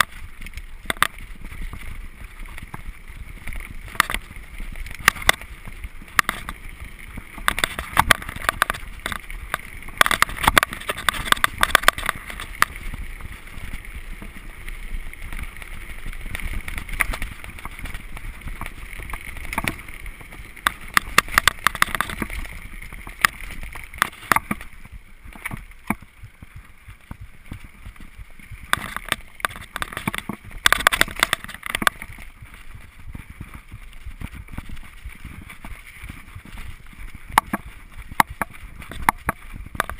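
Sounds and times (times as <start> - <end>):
bike rattling over bumps: 0.0 - 39.9
bike tyres rolling over dirt: 0.0 - 39.9.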